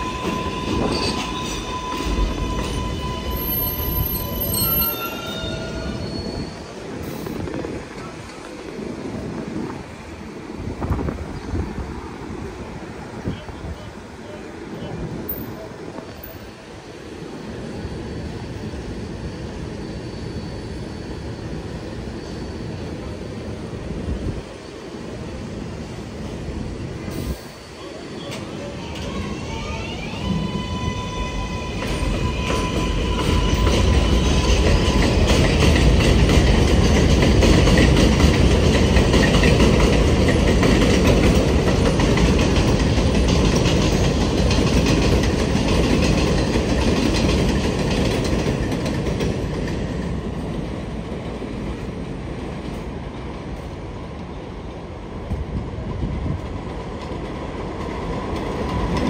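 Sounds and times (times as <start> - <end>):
train wheels rumbling and clattering: 0.0 - 59.0.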